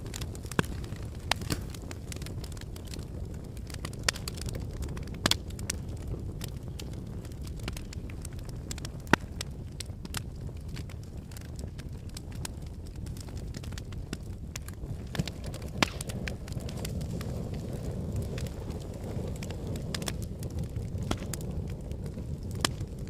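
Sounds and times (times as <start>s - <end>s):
logs burning in a fireplace: 0.0s - 23.0s.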